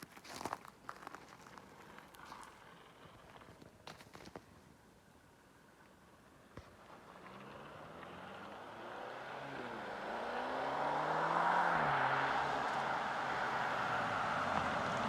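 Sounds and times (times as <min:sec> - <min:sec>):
car approaching: 0:00.1 - 0:15.0.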